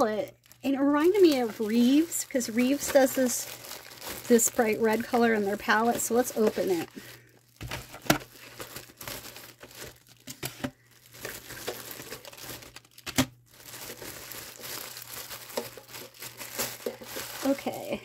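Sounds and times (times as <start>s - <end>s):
packaging crinkling and tearing: 0.0s - 17.9s.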